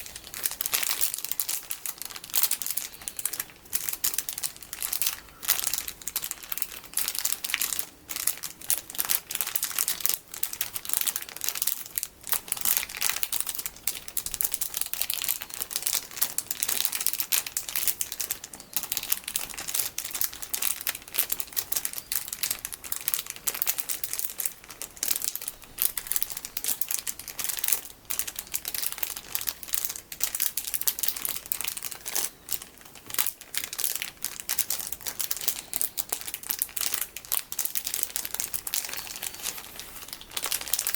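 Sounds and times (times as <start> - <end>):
plastic packaging crinkling: 0.0 - 40.9.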